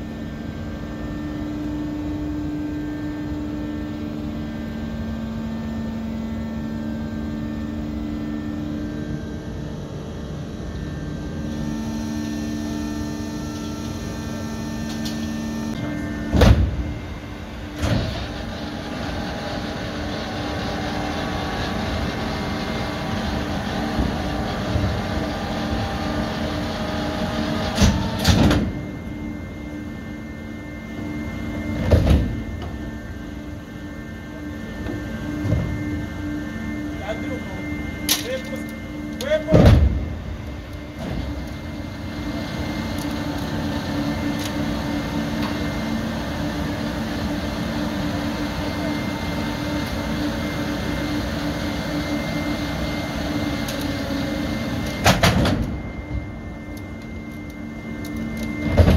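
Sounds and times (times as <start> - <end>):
mechanical hum: 0.0 - 58.9.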